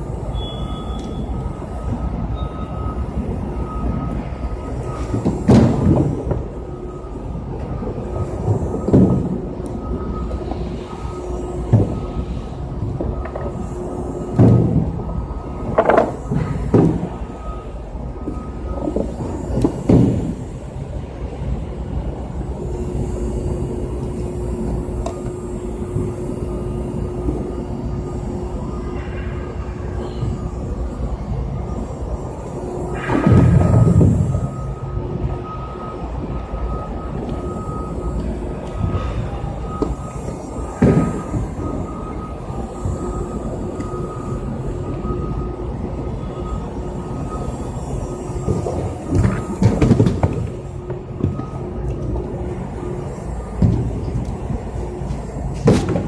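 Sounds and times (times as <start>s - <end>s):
constant hum: 0.0s - 56.0s
faint steady whine: 0.0s - 56.0s
low mechanical rumble: 0.0s - 56.0s.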